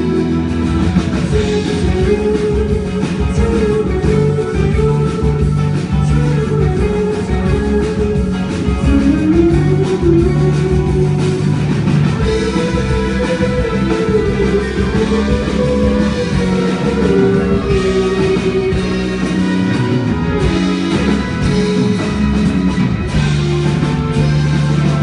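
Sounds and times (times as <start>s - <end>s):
drum kit: 0.0s - 25.0s
guitar: 0.0s - 25.0s
sustained melodic line: 0.0s - 25.0s.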